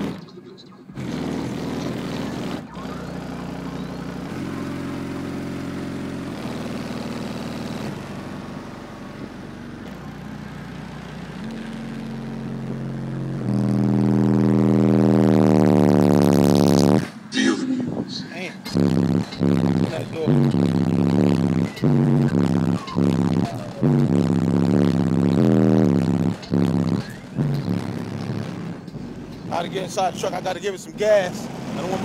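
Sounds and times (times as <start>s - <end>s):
loud bass from subwoofers: 0.0s - 32.0s.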